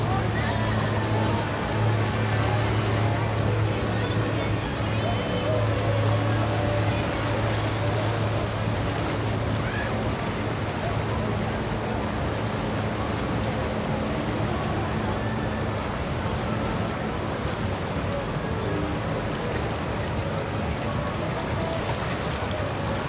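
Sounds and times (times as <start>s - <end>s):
boat engines idling: 0.0s - 23.0s
faint voices: 0.0s - 23.0s
water wash: 0.0s - 23.0s.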